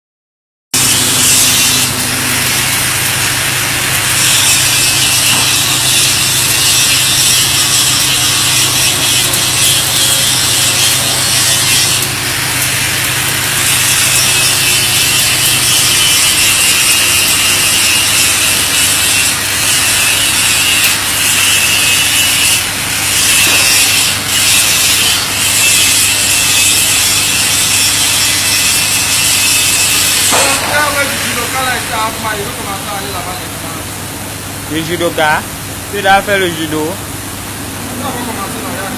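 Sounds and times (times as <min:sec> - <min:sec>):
arc welding crackling sizzle: 0:00.8 - 0:33.4.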